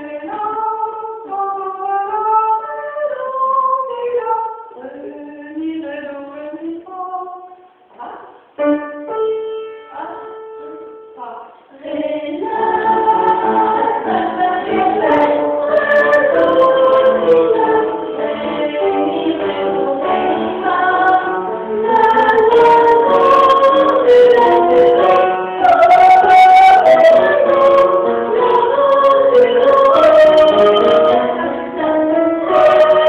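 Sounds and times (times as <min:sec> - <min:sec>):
two girls singing a duet: 0:00.0 - 0:33.0.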